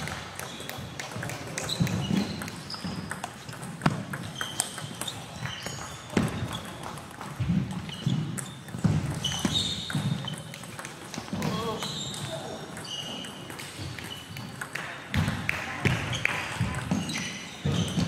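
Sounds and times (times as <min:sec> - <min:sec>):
shoes squeaking on wooden floor: 0:00.0 - 0:18.0
table tennis balls bouncing: 0:00.0 - 0:18.0.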